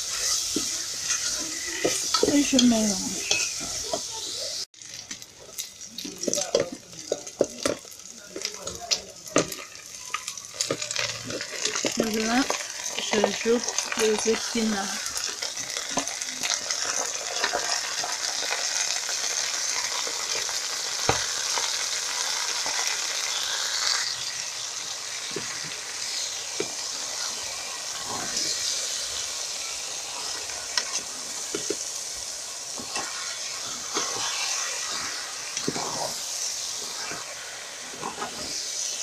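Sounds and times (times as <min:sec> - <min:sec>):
spinach sizzling in hot oil: 0:00.0 - 0:39.0.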